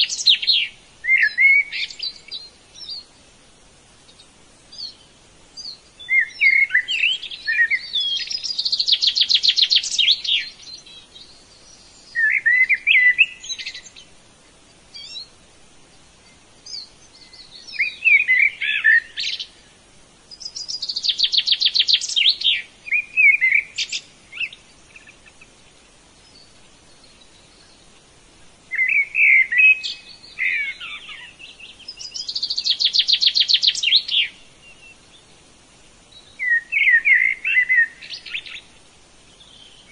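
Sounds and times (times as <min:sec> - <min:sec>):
songbird twittering and trilling: 0:00.0 - 0:39.9.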